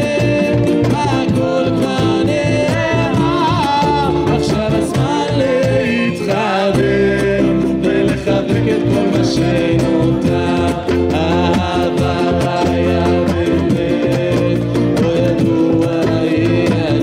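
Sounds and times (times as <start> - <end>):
acoustic guitar strumming: 0.0 - 17.0
man singing into microphone: 0.0 - 17.0.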